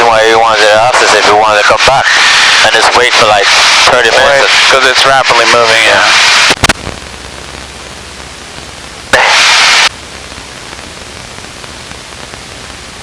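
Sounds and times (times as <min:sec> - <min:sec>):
burst of radio static: 0:00.0 - 0:13.0.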